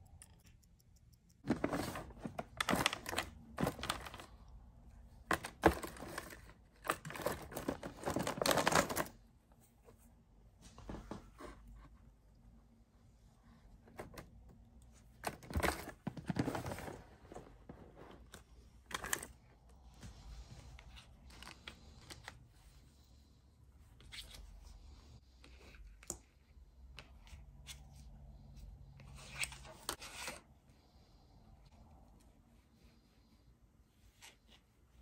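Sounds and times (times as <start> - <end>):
rustling and scraping handling: 1.4 - 12.3, 13.6 - 35.0.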